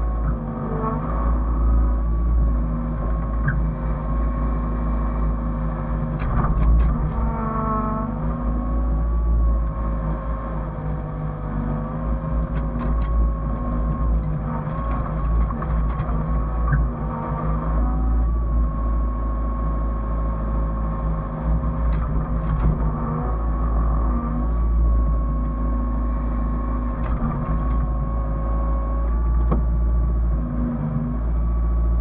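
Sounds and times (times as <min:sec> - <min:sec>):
engine whine: 0:00.0 - 0:32.0
excavator diesel engine running: 0:00.0 - 0:32.0.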